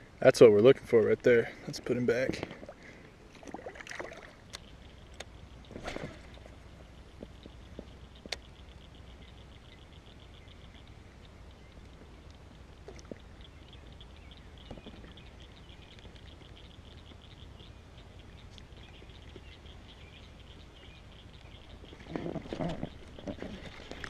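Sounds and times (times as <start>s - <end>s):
frogs clicking calls: 2.8s - 24.0s.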